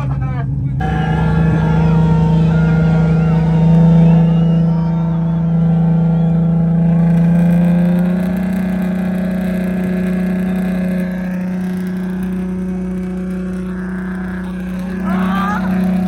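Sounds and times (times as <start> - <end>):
car engine at high revs: 0.8 - 16.0.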